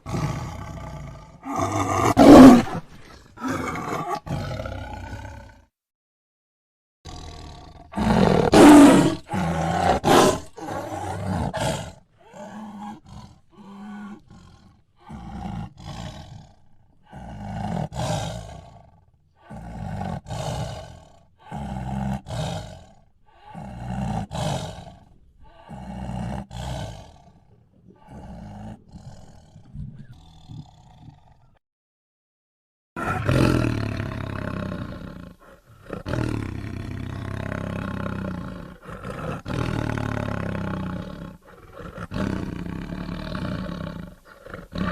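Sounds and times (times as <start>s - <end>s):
tiger roaring: 0.0s - 5.7s, 7.1s - 31.6s, 33.0s - 44.9s.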